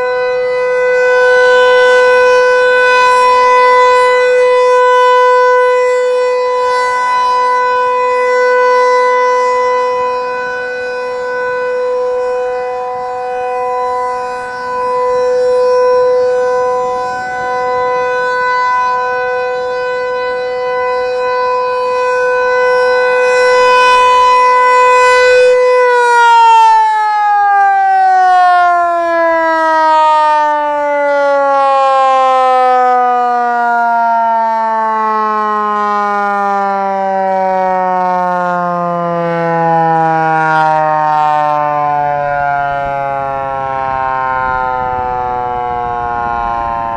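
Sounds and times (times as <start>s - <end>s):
rotating warning siren: 0.0s - 46.9s.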